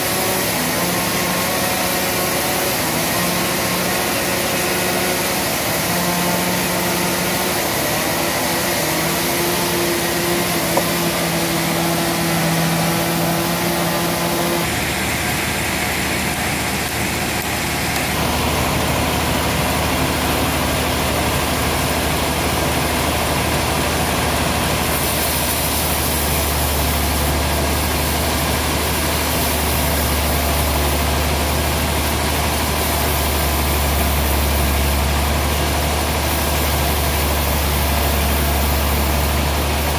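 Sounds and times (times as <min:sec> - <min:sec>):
band saw machinery droning: 0:00.0 - 0:39.9.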